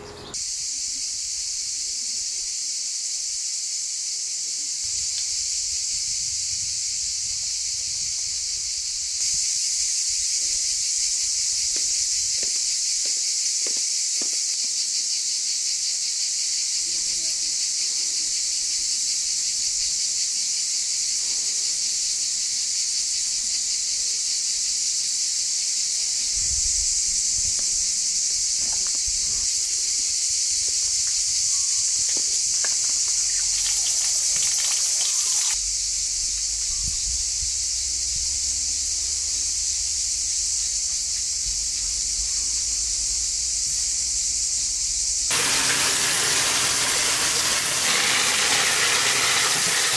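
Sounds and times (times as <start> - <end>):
insects chorus hissing: 0.0 - 49.9.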